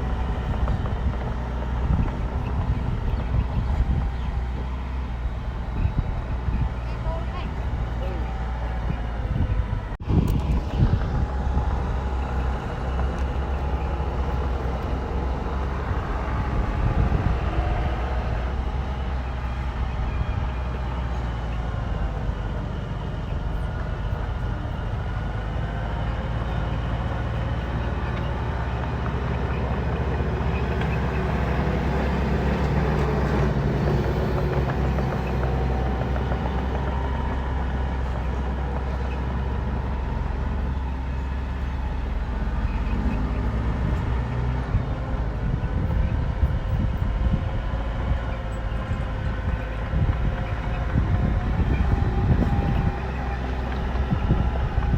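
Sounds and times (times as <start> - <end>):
bulldozer diesel engine revving: 0.0 - 54.9.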